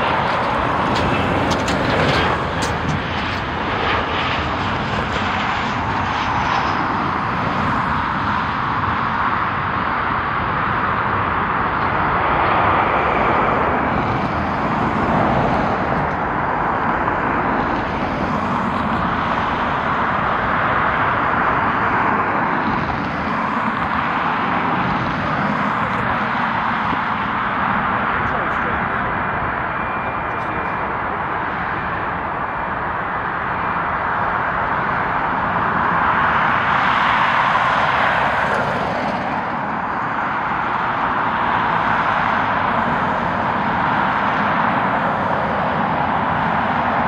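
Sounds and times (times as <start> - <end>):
airliner engines rushing: 0.0 - 47.0.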